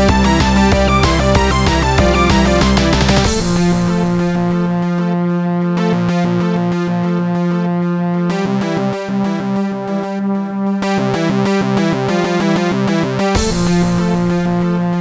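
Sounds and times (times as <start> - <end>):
pulsing synthesizer chords: 0.0 - 15.0
synth bass: 0.0 - 15.0.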